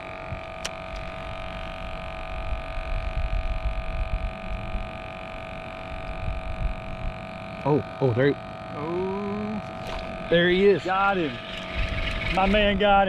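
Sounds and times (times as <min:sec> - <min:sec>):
low uneven rumble: 0:00.0 - 0:13.0
steady tonal hum: 0:00.0 - 0:13.0.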